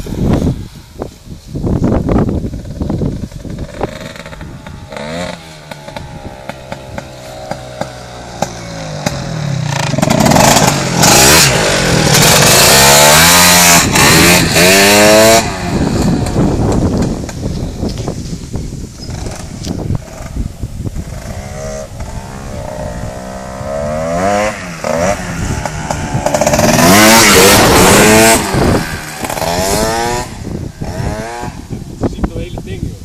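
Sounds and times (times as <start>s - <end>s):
scooter engine revving: 2.3s - 18.1s, 19.0s - 31.8s.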